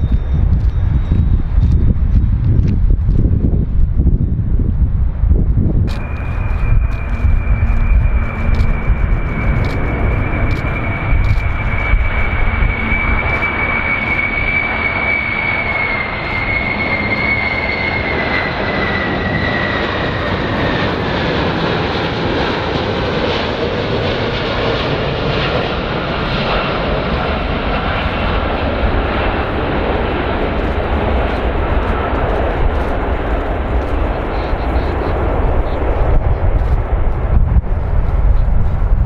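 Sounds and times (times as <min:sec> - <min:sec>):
jet engines passing overhead: 0:00.0 - 0:39.0.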